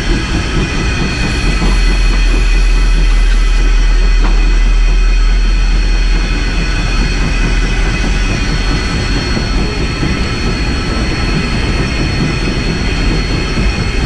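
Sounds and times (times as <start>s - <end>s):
steam locomotive rumble: 0.0s - 14.0s.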